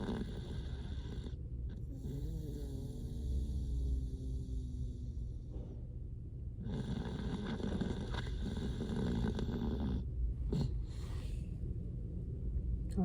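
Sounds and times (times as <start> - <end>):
dog snoring: 0.0 - 5.9, 6.6 - 11.4.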